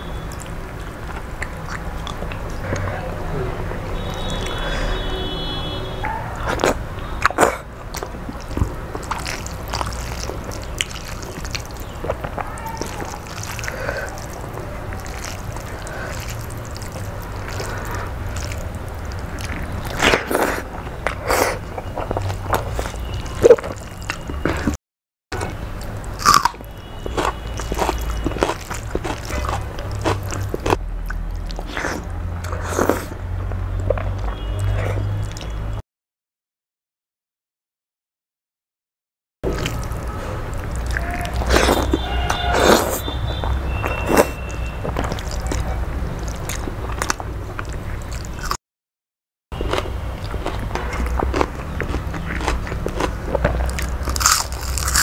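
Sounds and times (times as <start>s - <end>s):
person chewing food: 0.3s - 3.0s, 6.4s - 24.8s, 25.4s - 35.6s, 39.4s - 48.6s, 49.6s - 55.0s.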